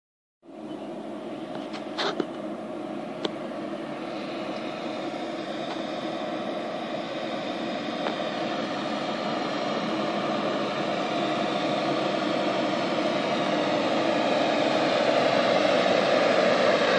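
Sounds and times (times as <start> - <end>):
diesel truck engine approaching: 0.5 - 16.9.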